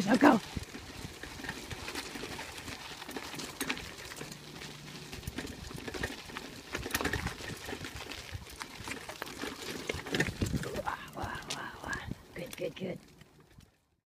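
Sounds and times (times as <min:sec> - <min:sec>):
tricycle clicking and rattling: 0:00.0 - 0:14.0
dog pawsteps on dirt: 0:00.3 - 0:13.7.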